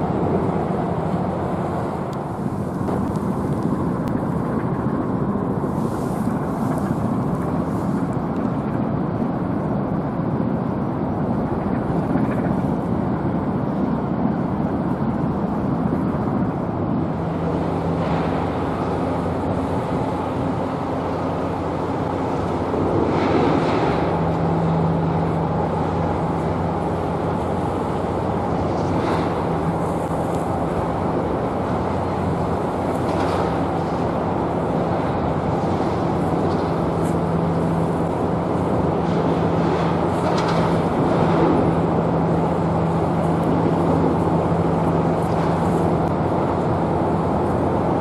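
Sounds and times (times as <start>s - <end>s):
low engine hum: 0.0s - 48.0s
traffic rumble: 0.0s - 48.0s
wind on microphone: 0.0s - 48.0s.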